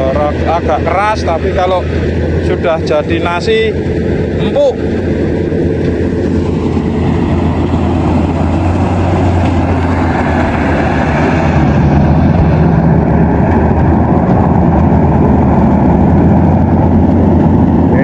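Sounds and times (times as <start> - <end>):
combine harvester engine hum: 0.0 - 18.0.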